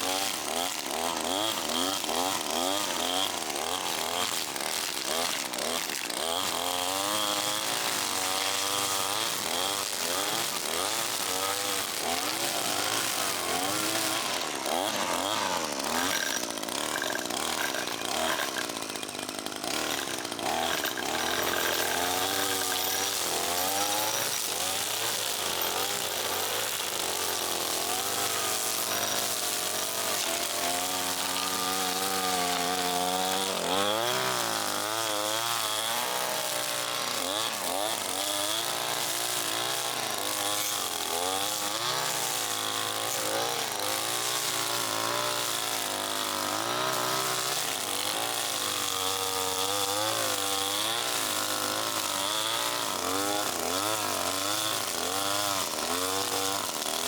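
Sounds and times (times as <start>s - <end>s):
small gas engine revving: 0.0s - 57.0s.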